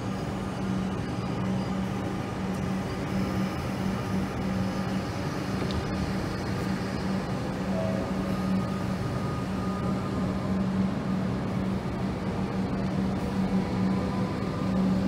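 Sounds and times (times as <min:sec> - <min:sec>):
electric train moving slowly: 0:00.0 - 0:15.0.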